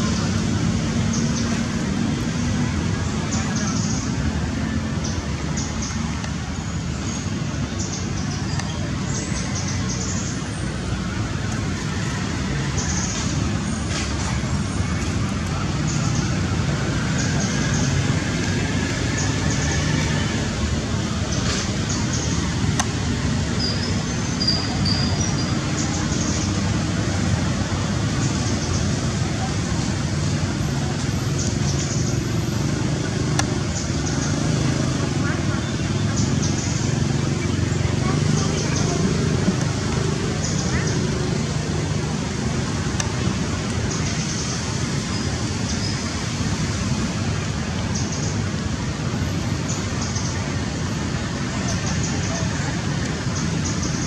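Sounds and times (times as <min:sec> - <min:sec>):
rushing background noise: 0:00.0 - 0:54.0.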